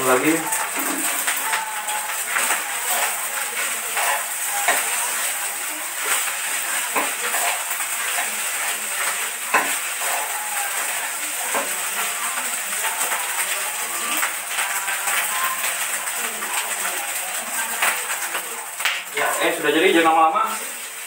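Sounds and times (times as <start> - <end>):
rice sizzling in frying pan: 0.0 - 21.0.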